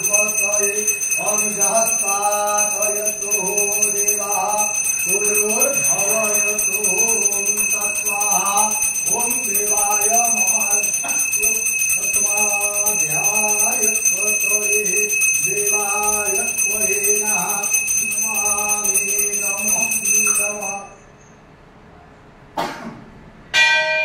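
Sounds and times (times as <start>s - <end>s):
person chanting: 0.0s - 20.9s
hand bell ringing: 0.0s - 21.0s.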